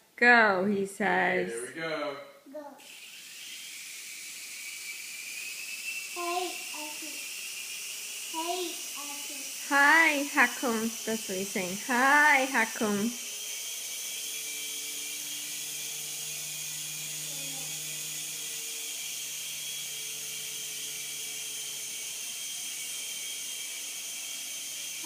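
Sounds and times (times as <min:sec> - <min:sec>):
toy helicopter motor whirring: 0:02.6 - 0:25.0.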